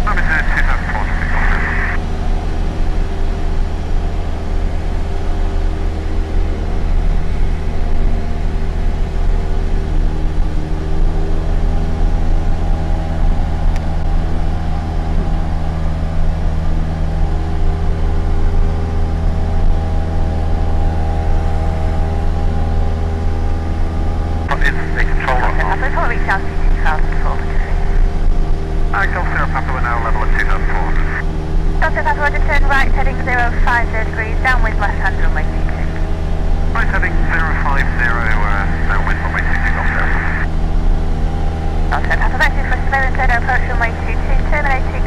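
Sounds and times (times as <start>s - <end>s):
aircraft engine droning in cabin: 0.0s - 45.0s.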